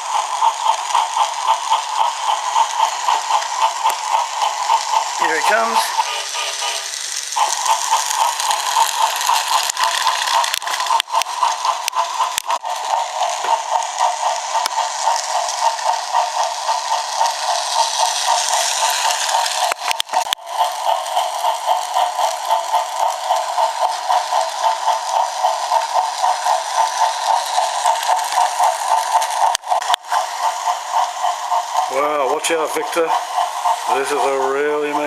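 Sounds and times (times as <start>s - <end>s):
toy train motor whirring: 0.0s - 35.0s.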